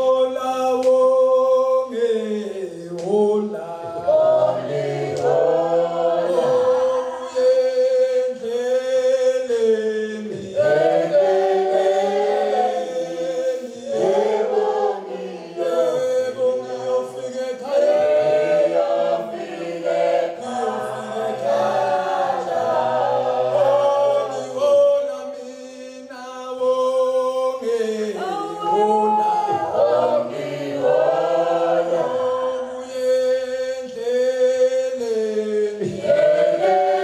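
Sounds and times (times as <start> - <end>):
choir singing a hymn a cappella: 0.0 - 37.0.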